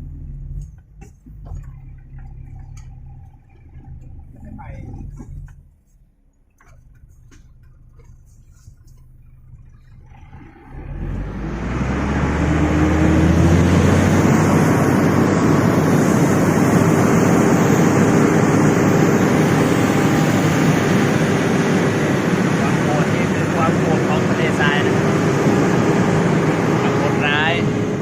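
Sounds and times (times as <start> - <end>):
diesel truck engine accelerating: 0.0 - 28.0.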